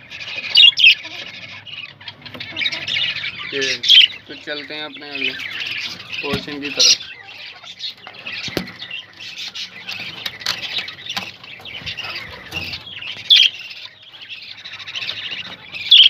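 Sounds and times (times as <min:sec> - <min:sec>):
bird squawk: 0:00.0 - 0:16.0
budgerigars chattering: 0:00.0 - 0:16.0.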